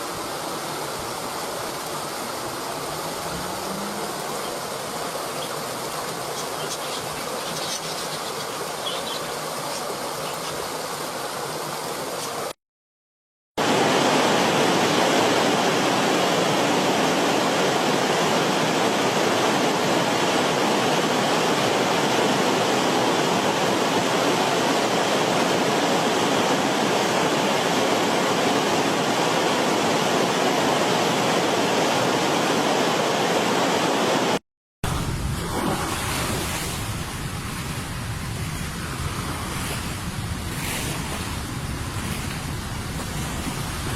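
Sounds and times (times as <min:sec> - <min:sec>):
waterfall rushing: 0:00.0 - 0:12.6, 0:13.6 - 0:43.9.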